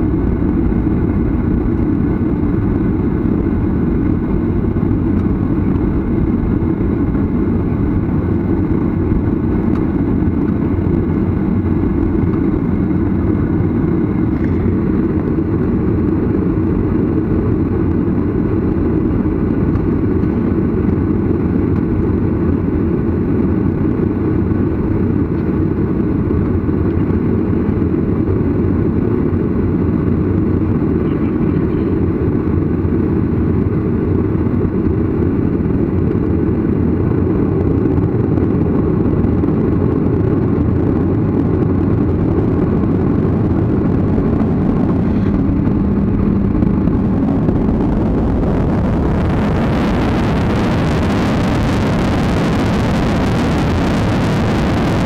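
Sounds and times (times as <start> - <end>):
jet engine cabin noise: 0.0 - 55.0.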